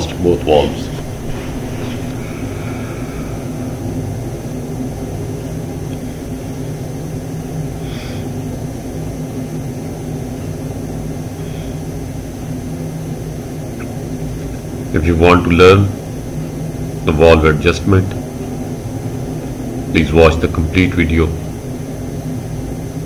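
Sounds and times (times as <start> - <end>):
machinery motor hum: 0.0 - 23.0.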